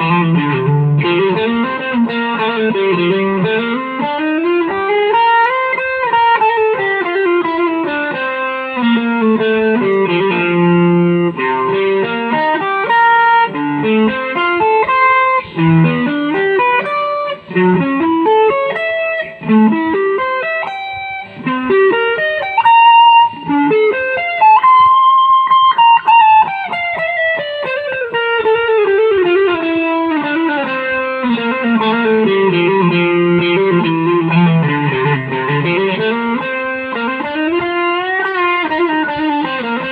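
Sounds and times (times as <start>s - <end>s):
plucked string instrument melody: 0.0s - 39.9s.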